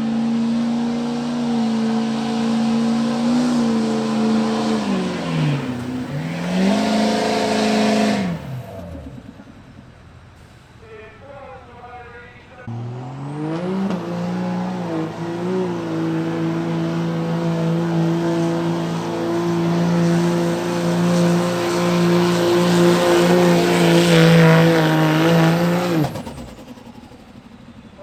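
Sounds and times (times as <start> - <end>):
diesel truck engine revving: 0.0 - 28.0.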